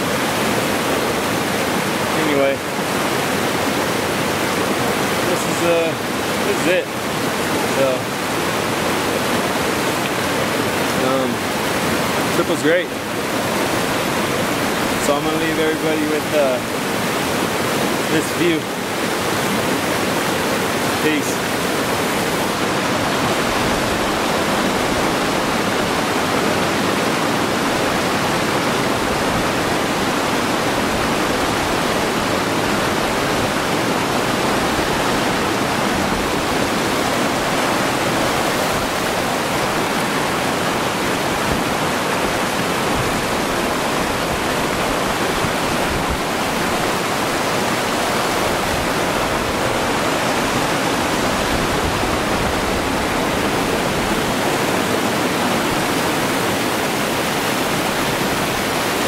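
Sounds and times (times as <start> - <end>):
mountain stream rushing: 0.0 - 59.0.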